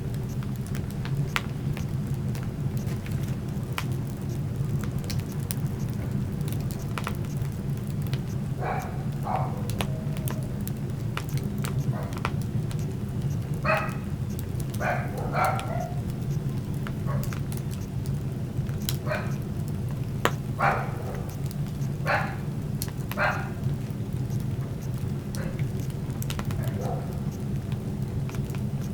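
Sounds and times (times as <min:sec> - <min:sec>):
wood fire crackling: 0:00.0 - 0:28.9.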